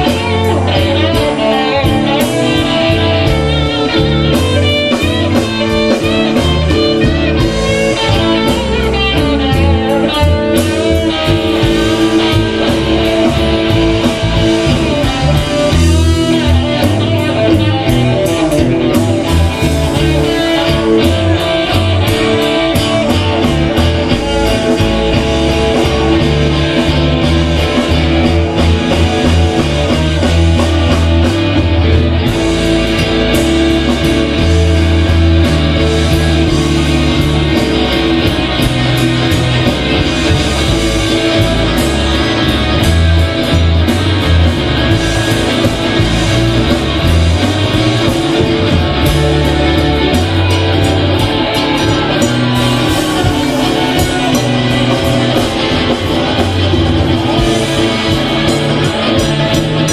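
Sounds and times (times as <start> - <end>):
blues-rock band playing: 0.0 - 59.9
electric guitar lead: 0.0 - 59.9.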